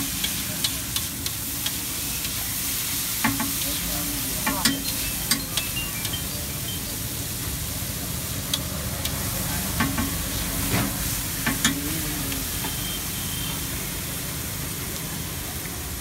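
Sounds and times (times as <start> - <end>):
onion sizzling in oil: 0.0 - 16.0.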